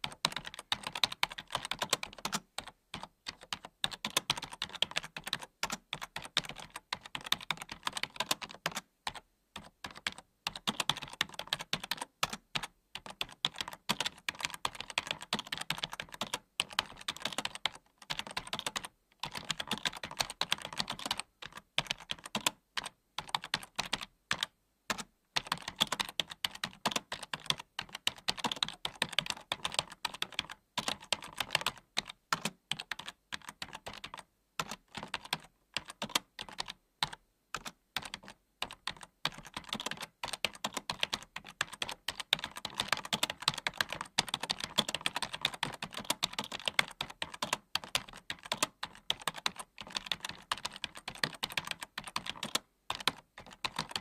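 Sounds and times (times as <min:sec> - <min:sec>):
computer keyboard typing: 0:00.0 - 0:54.0.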